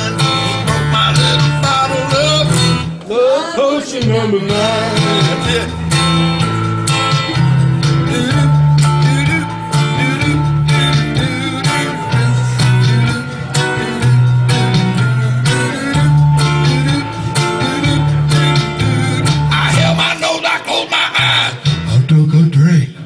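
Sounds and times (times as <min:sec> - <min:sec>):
low bass line: 0:00.0 - 0:03.0, 0:04.1 - 0:20.3, 0:21.2 - 0:22.7
electric guitar strumming: 0:00.0 - 0:22.1.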